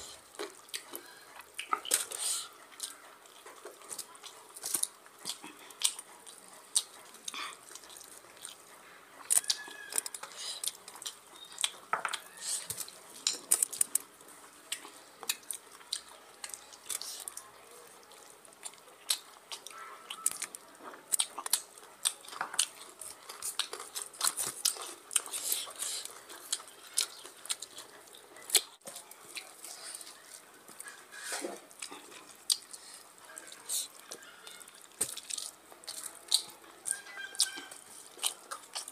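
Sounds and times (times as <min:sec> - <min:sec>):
wet chewing and lip smacking: 0:00.0 - 0:38.9.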